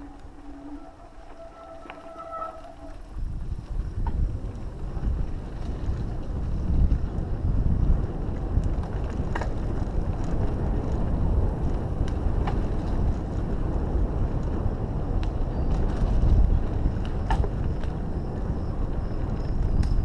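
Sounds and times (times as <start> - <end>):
bike tyres rolling on dirt trail: 0.0 - 20.0
wind on microphone: 0.0 - 20.0
bike rattling clicks: 3.5 - 20.0.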